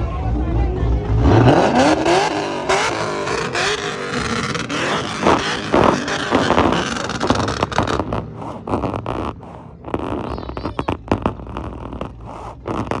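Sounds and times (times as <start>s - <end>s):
car engine rumbling: 0.0s - 13.0s
exhaust cracks and pops: 1.4s - 13.0s.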